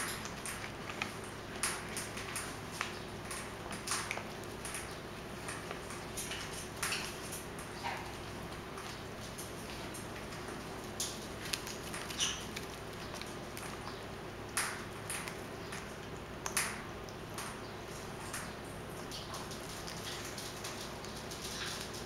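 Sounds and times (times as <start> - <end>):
parrots chirping and clicking: 0.0 - 22.0.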